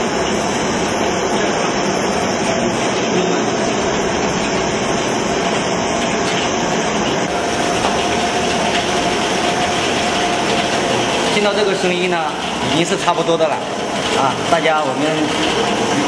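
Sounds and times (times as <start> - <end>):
corn popping crackle: 0.0 - 16.0.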